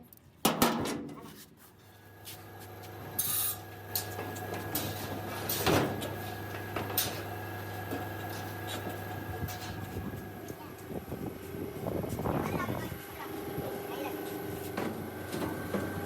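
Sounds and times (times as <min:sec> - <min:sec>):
low machine hum: 0:01.9 - 0:16.0.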